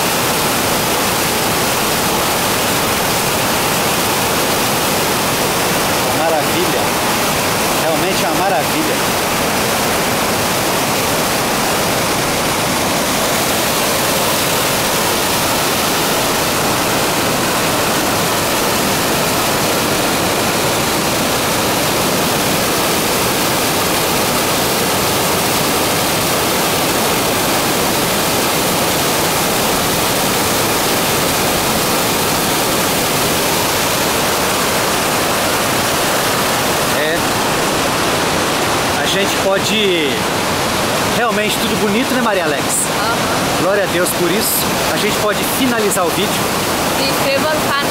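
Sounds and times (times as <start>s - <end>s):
waterfall rushing over rock: 0.0s - 47.9s.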